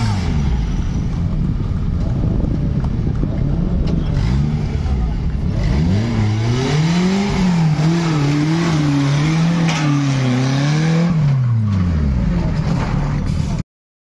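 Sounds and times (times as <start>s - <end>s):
off-road vehicle engine revving: 0.0s - 13.6s.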